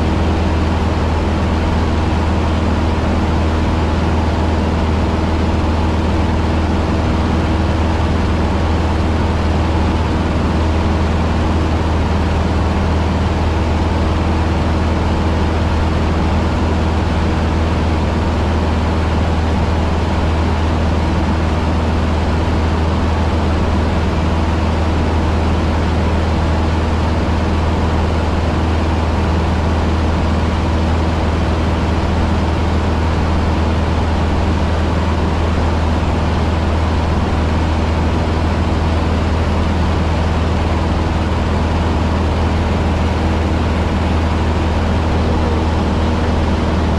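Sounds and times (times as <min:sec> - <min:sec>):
small plane engine and propeller drone: 0:00.0 - 0:46.9.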